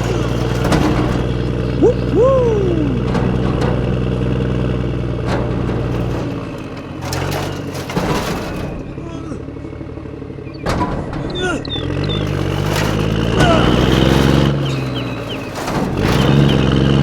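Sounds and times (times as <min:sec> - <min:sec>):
clicks and knocks: 0:00.0 - 0:09.0, 0:10.5 - 0:17.0.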